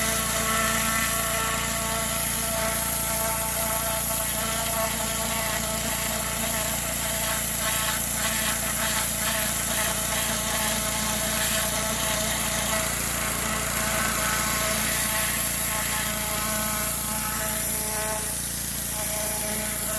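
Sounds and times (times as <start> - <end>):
pressure washer engine drone: 0.0 - 19.9.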